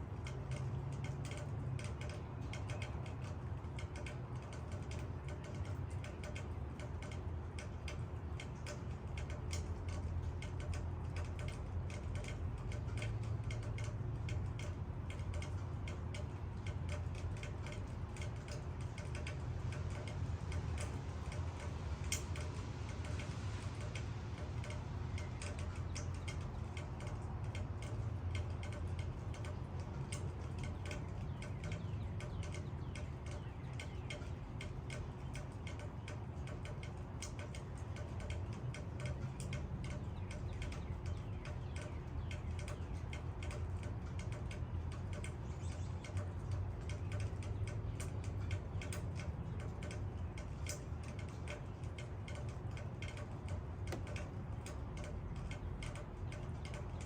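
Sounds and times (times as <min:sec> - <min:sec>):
low steady rumble: 0:00.0 - 0:57.0
raindrops striking leaves: 0:00.0 - 0:57.0.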